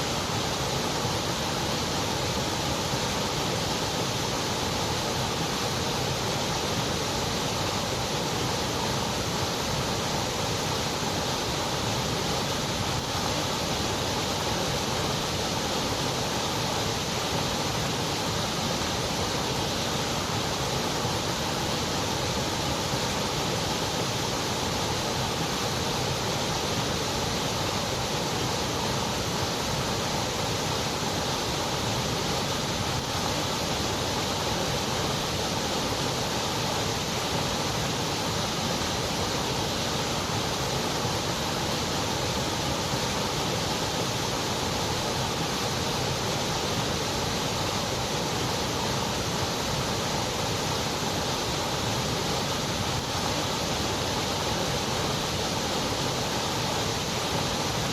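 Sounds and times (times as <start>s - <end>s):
steady white noise hiss: 0.0s - 57.9s.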